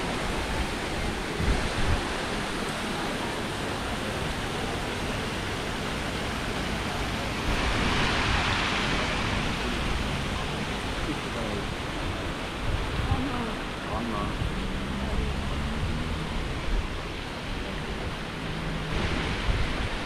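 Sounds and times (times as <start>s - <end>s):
fountain jets splashing: 0.0s - 20.0s.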